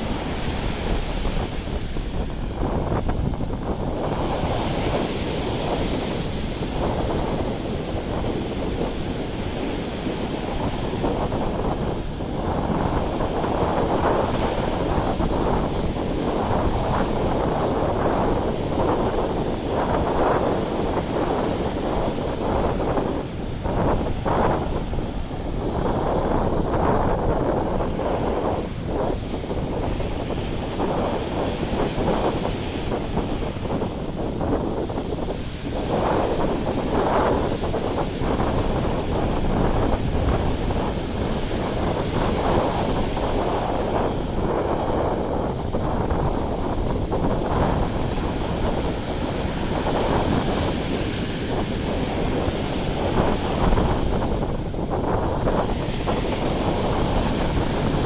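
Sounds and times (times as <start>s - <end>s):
sea surf rushing: 0.0s - 58.0s
wind buffeting microphone: 0.0s - 58.0s.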